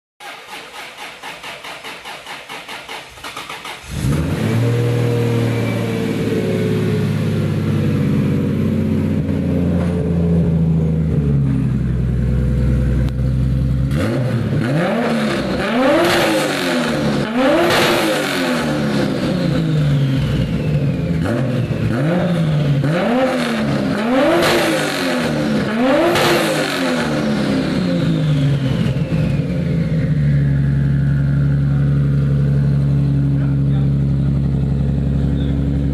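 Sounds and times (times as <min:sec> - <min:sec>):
car engine idling and revving: 0:00.2 - 0:35.9.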